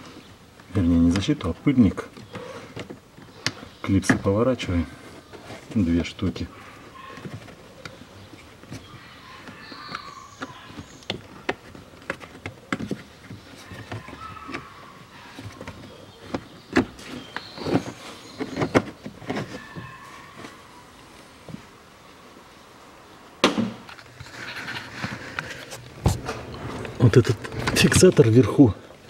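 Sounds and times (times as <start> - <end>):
rustling: 0.0 - 22.6, 23.7 - 29.0.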